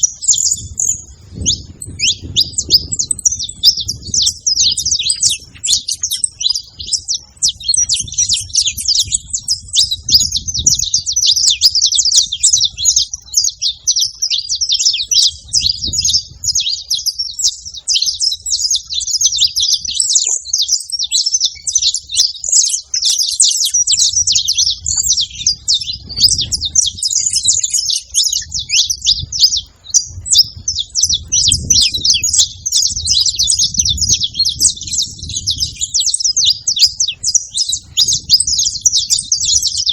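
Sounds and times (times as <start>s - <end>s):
finches singing: 0.0s - 39.9s.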